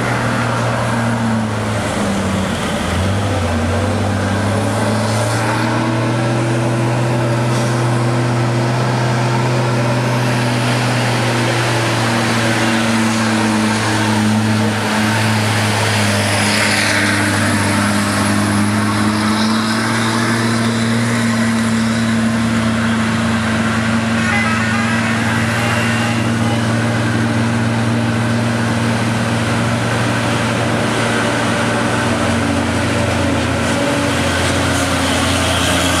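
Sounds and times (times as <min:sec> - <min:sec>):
diesel truck engines humming: 0:00.0 - 0:36.0.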